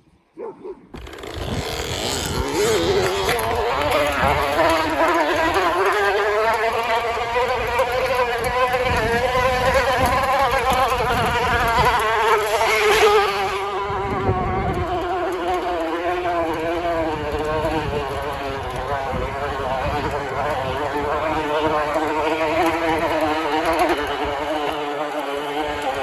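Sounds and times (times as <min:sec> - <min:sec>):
bottle buzzing on bicycle spokes: 0:01.0 - 0:26.0.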